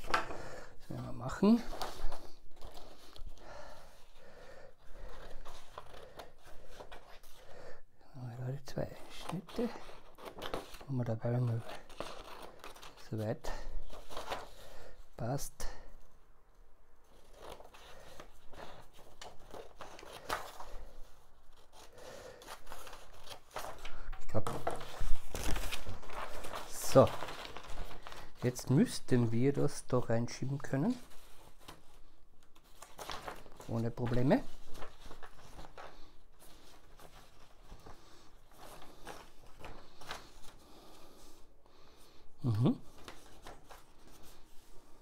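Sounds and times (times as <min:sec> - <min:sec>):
paper rustling: 0:00.0 - 0:07.6, 0:08.7 - 0:15.0, 0:17.0 - 0:42.2, 0:42.8 - 0:45.0.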